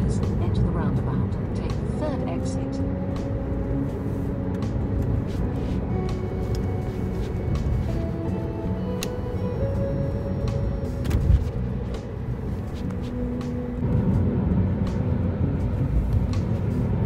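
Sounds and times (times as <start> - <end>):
background music of held tones: 0.0 - 17.0
car interior road rumble: 0.0 - 17.0.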